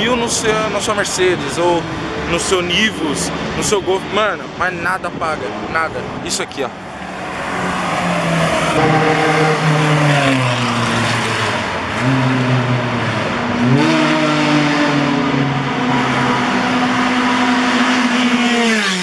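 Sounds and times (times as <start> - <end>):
race car engine revving: 0.4 - 19.0
loud rushing noise: 1.2 - 19.0.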